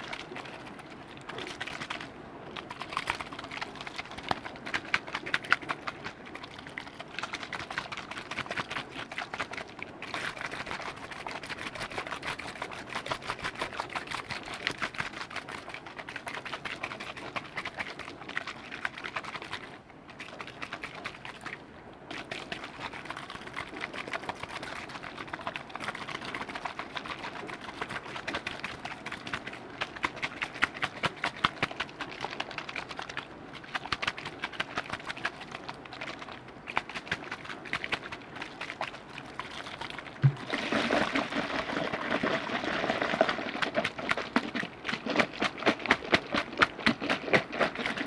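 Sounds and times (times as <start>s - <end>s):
crackling liquid clicks: 0.0s - 21.6s, 22.2s - 48.0s.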